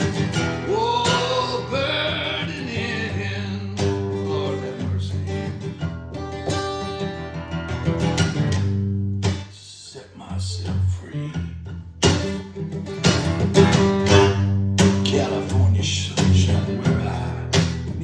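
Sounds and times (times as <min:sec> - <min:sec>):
acoustic guitar strumming: 0:00.0 - 0:09.6, 0:11.3 - 0:18.0.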